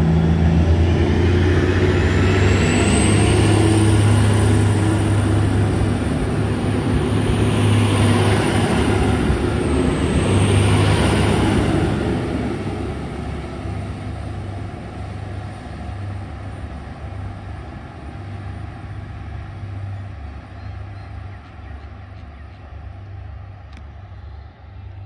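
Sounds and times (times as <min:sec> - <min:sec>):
passenger train rumbling past: 0:00.0 - 0:25.0.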